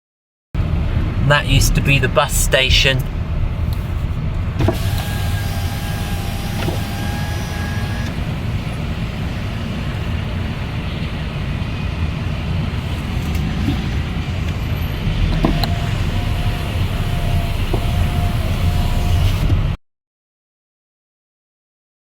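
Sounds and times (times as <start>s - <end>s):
car engine and road rumble: 0.6s - 19.8s.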